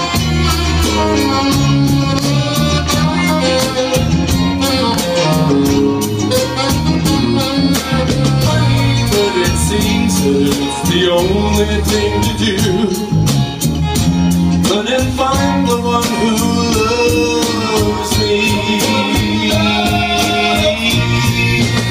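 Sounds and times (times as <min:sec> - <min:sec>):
ukulele band playing soft rock: 0:00.0 - 0:21.9.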